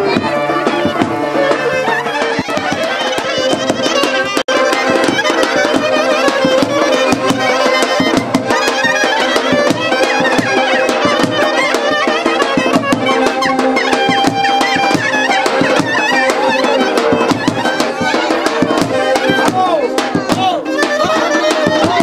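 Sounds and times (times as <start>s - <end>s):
folk dance music: 0.0s - 22.0s.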